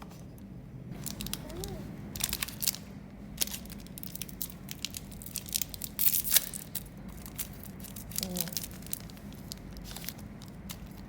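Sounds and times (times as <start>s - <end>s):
plastic wrapper crinkling and tearing: 1.0s - 11.0s.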